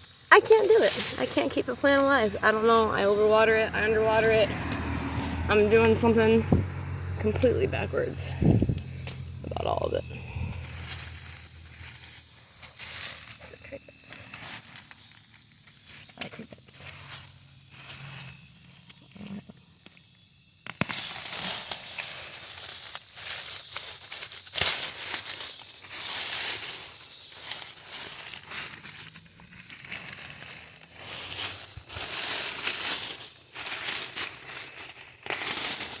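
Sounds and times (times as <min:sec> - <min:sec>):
leafy vegetation rustling: 0:00.0 - 0:19.8, 0:20.8 - 0:36.0.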